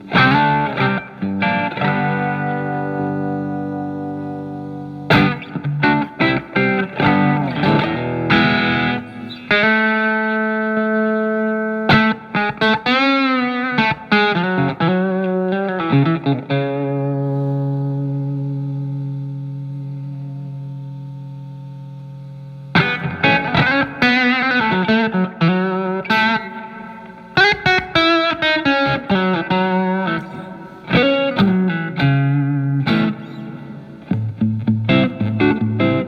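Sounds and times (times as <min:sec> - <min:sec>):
distorted electric guitar: 0:00.0 - 0:36.0.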